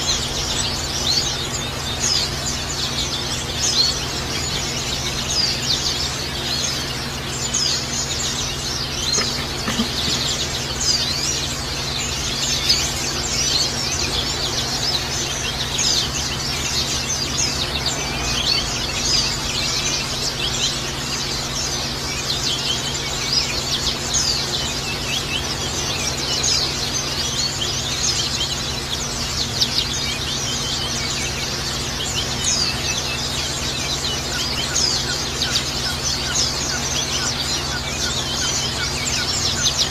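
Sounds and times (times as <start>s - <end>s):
birds twittering: 0.0s - 39.9s
steady low hum: 0.0s - 39.9s.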